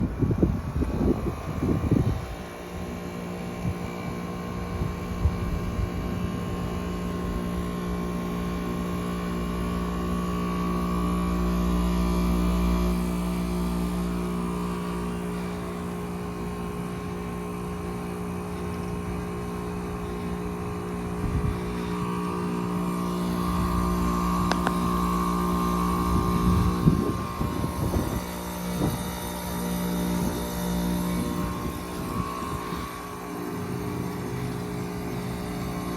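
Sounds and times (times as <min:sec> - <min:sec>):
heat pump humming: 0:00.0 - 0:35.9.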